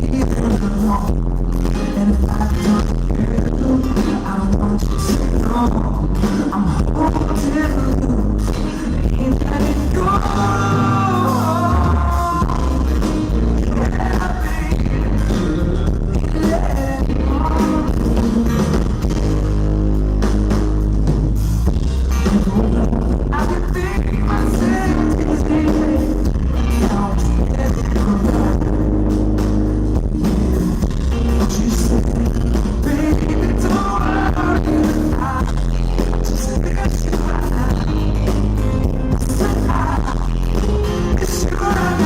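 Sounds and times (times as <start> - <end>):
boomy bass: 0.0 - 42.0
live pop-rock band: 0.0 - 42.0.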